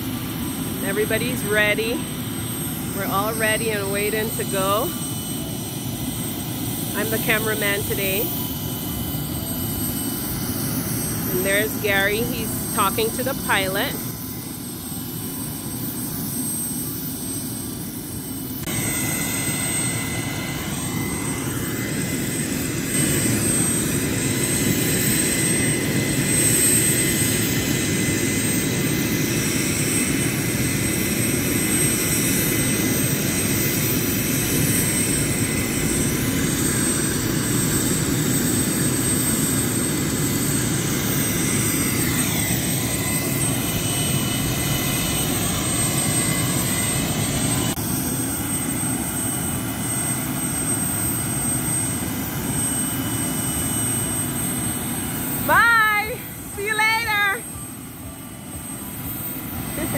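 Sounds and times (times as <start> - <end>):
helicopter engine whine: 0.0 - 59.9
helicopter rotor churning: 0.0 - 59.9.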